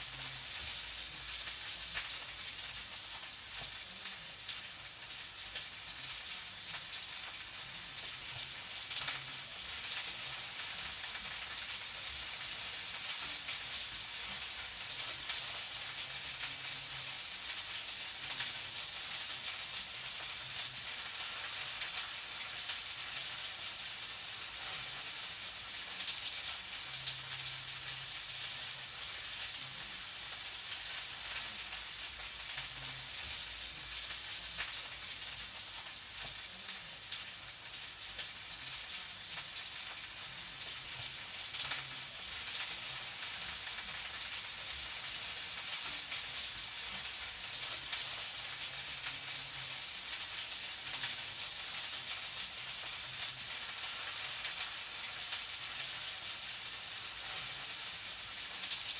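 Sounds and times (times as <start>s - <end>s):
food sizzling in a frying pan: 0.0s - 58.9s.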